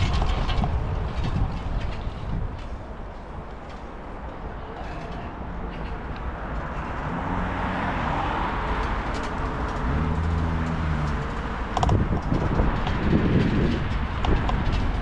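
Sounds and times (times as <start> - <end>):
irregular rumbling clatter: 0.0 - 15.0
vehicle engines passing: 0.0 - 15.0.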